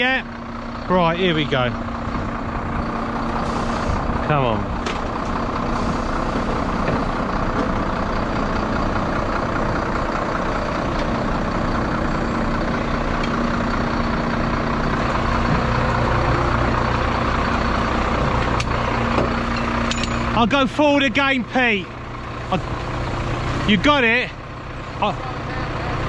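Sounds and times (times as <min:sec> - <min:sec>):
truck diesel engine running: 0:00.0 - 0:26.0
deep hum: 0:00.7 - 0:26.0.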